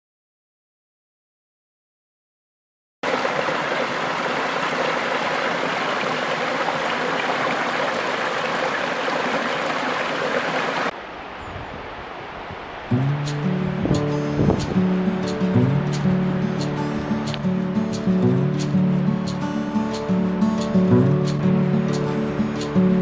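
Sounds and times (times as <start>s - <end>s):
running water rushing: 3.0s - 23.0s.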